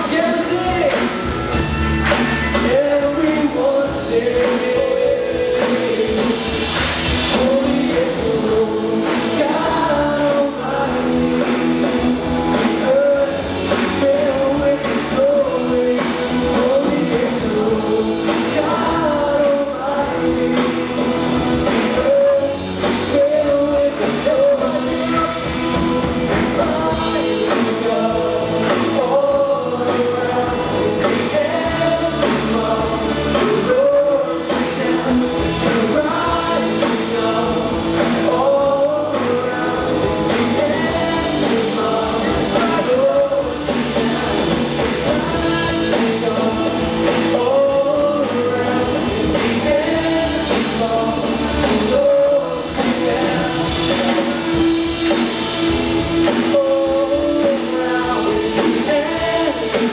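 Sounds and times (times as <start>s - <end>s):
man singing into microphone: 0.0s - 1.6s, 2.3s - 59.9s
drums: 0.0s - 59.9s
electric guitars: 0.0s - 59.9s.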